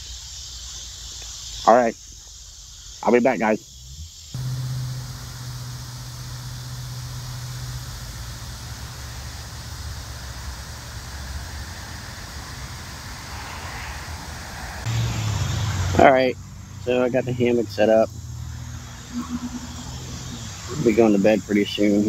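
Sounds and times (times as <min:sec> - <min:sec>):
busy road traffic hiss: 0:04.0 - 0:22.0.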